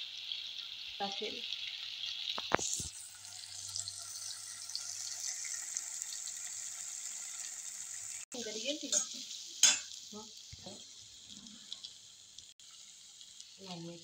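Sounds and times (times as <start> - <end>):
paste sizzling in oil: 0.0 - 14.0.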